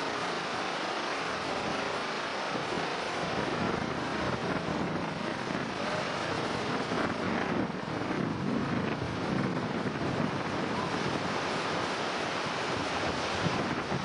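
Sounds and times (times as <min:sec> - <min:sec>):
heavy surf breaking: 0:00.0 - 0:14.0
wind buffeting microphone: 0:01.2 - 0:14.0.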